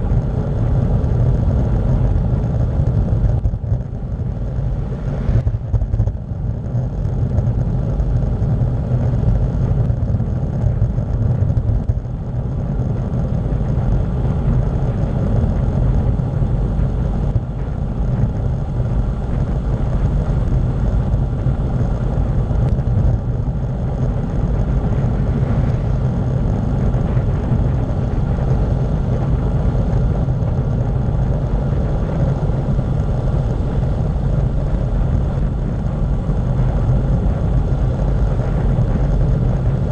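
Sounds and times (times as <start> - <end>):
tyre noise on asphalt: 0.0 - 39.9
wind buffeting microphone: 0.0 - 39.9.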